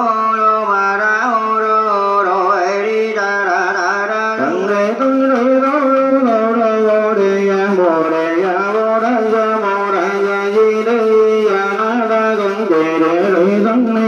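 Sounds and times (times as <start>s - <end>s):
person chanting into a microphone: 0.0s - 14.0s.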